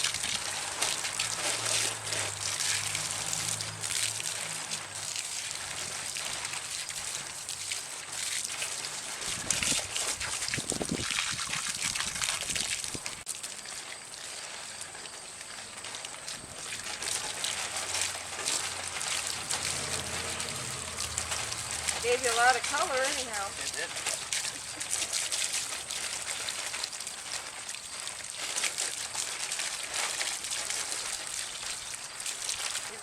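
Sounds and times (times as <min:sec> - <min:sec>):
garden hose spraying water: 0:00.0 - 0:33.0.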